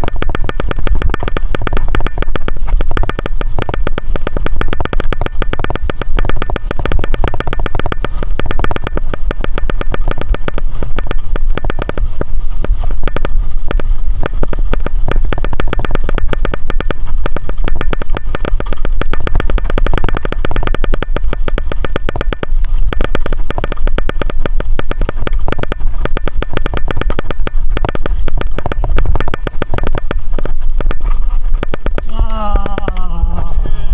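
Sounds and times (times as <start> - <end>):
drinking tube rattling clicks: 0.0 - 33.1
low wind rumble: 0.0 - 33.9.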